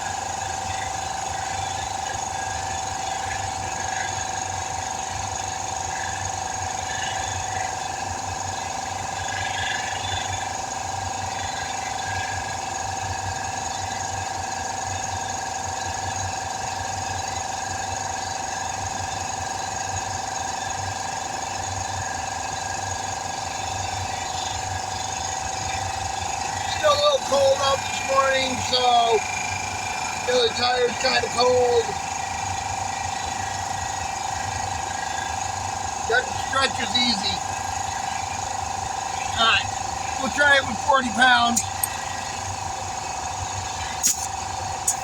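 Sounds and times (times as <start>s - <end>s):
air compressor pump pounding: 0.0s - 45.0s
compressor whine: 0.0s - 45.0s.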